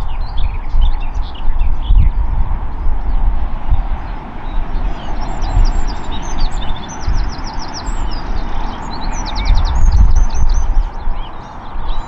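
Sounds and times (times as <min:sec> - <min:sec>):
small birds chirping: 0:00.0 - 0:12.0
jet engines rumbling: 0:01.8 - 0:11.7.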